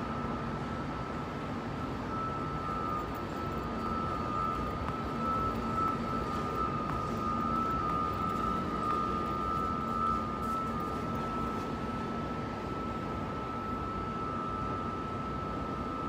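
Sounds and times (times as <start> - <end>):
high-pitched whine: 0.0 - 16.0
mechanical hum: 0.0 - 16.0.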